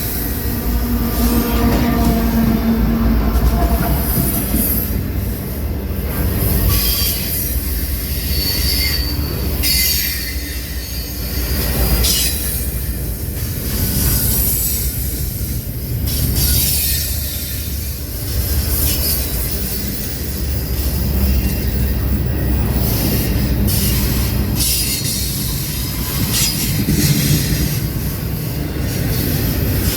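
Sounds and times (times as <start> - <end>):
train rumbling past: 0.0 - 29.9
train wheel squeal: 0.0 - 29.9.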